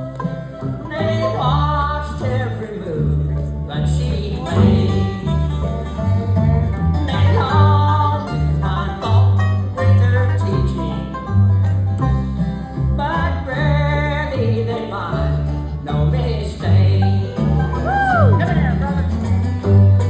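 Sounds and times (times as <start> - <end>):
banjo: 0.0 - 20.0
bluegrass band playing: 0.0 - 20.0
steady bass line: 0.0 - 20.0.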